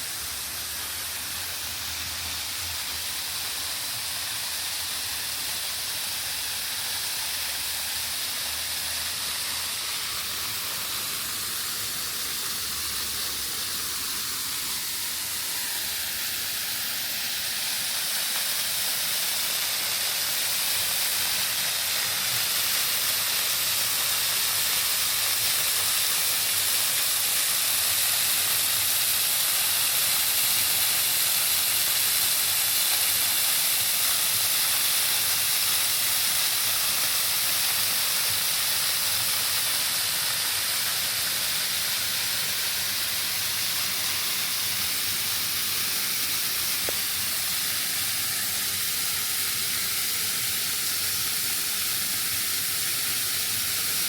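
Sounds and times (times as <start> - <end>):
waterfall rushing: 0.0 - 51.4.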